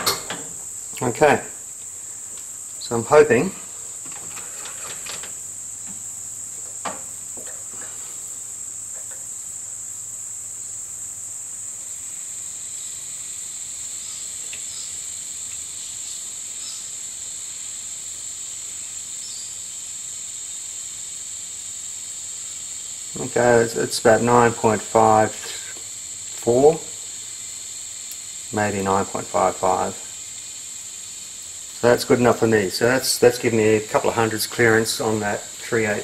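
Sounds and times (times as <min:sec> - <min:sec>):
steady high-pitched whine: 0:00.0 - 0:36.0.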